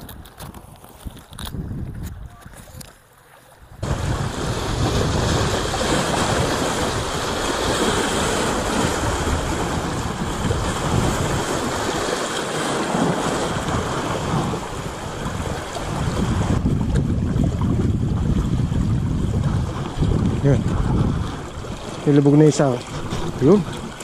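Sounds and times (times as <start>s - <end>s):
wind on microphone: 0.0s - 2.9s, 3.6s - 24.0s
water washing against rocks: 3.8s - 24.0s.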